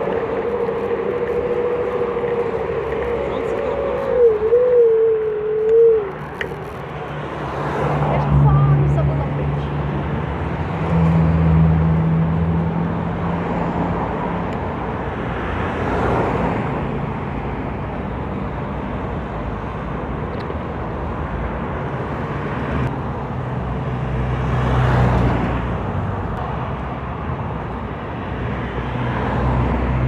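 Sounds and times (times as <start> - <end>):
electric scooter motor humming: 0.0 - 25.0
wind and road noise: 0.0 - 30.0.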